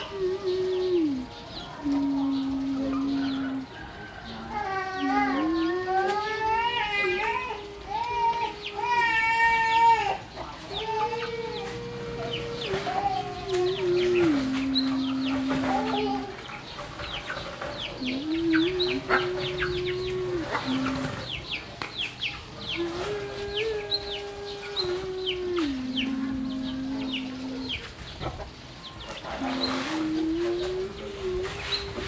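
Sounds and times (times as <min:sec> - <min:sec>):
low steady drone: 0:00.0 - 0:09.7, 0:10.6 - 0:16.8, 0:17.9 - 0:21.8, 0:22.5 - 0:32.0
chickens clucking: 0:00.0 - 0:32.0
chicks peeping: 0:00.0 - 0:32.0.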